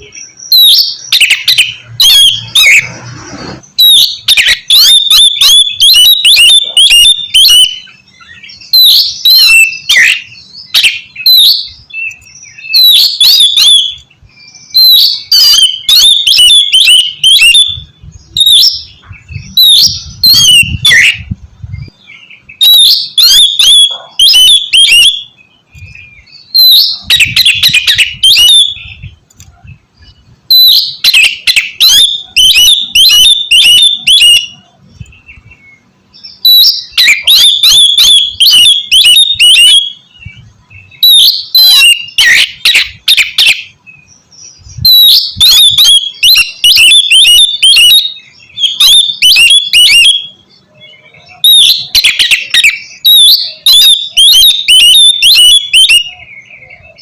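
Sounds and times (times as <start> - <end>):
bird singing rasping notes and whistles: 0.0 - 57.0.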